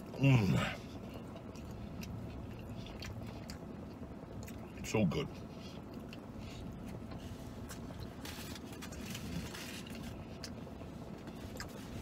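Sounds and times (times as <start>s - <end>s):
man chewing food: 0.0s - 12.0s
vehicle cabin hum: 0.0s - 12.0s.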